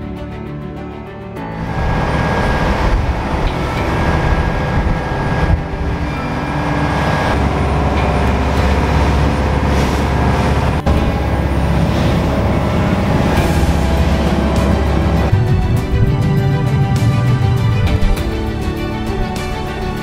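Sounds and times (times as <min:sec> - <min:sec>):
boat engine running: 0:01.5 - 0:20.0
water rushing past hull: 0:01.6 - 0:20.0.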